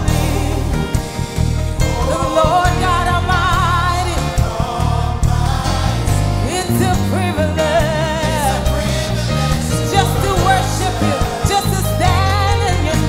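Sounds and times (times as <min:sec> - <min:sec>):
gospel band with sustained bass: 0:00.0 - 0:13.0
person singing with vibrato: 0:01.8 - 0:13.0.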